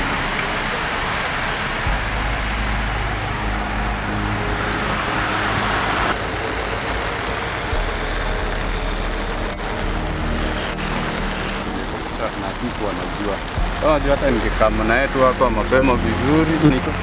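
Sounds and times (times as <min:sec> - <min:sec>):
low engine hum: 0:00.0 - 0:17.0
rain: 0:00.0 - 0:17.0
tyres hissing through water: 0:00.0 - 0:17.0.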